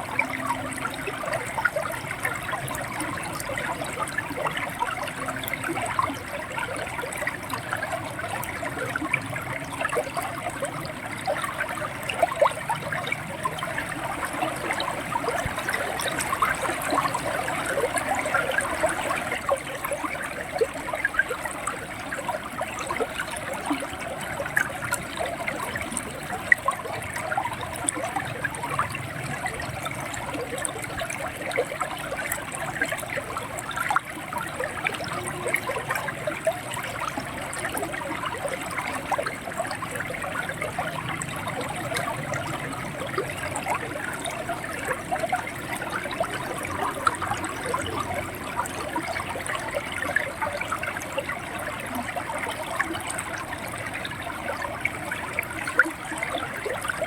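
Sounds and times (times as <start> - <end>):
small water splashes: 0.0 - 57.0.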